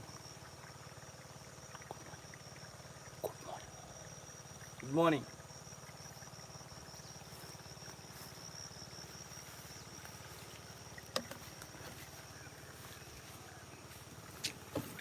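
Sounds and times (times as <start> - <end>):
high insect trill: 0.0 - 15.0
pulsing mechanical hum: 0.0 - 15.0.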